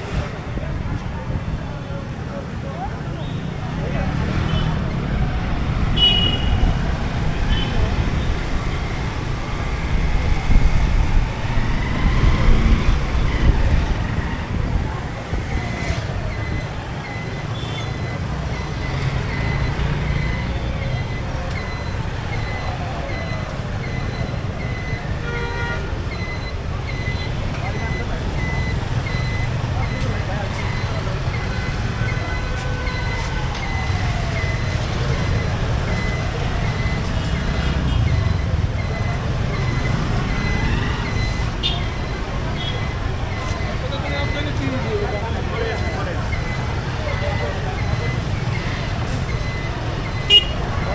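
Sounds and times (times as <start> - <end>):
motorcycle engine rumble: 0.0 - 50.9.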